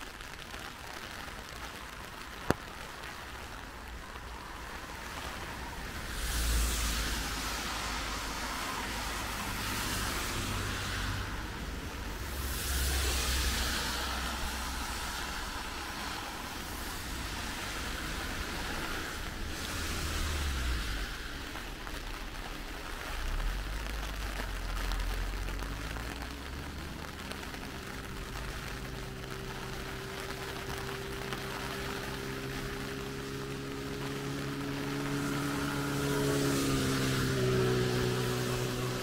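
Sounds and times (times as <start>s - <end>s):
steady rain hiss: 0.0s - 39.0s
vehicle engine hum approaching: 1.7s - 39.0s.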